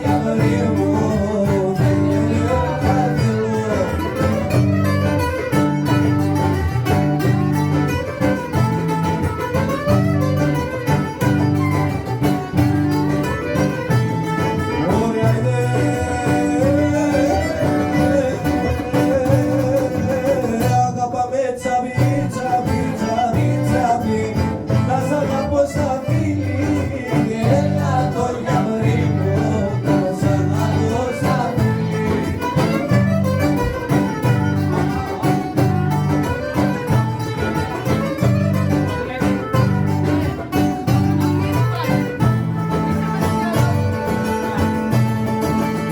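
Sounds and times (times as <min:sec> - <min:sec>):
violin melody: 0:00.0 - 0:20.6, 0:22.2 - 0:45.9
plucked strings: 0:00.0 - 0:45.9.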